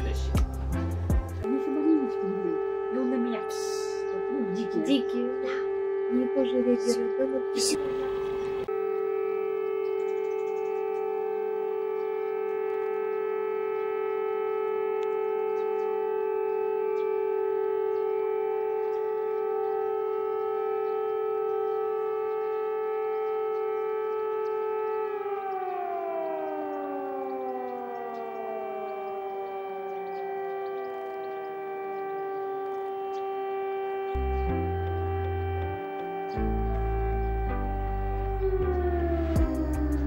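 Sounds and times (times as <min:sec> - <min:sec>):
air raid siren: 0:00.0 - 0:40.0.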